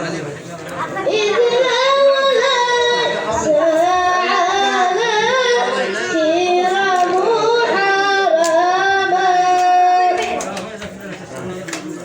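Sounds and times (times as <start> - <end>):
boy chanting a devotional melody: 0.6 - 10.7.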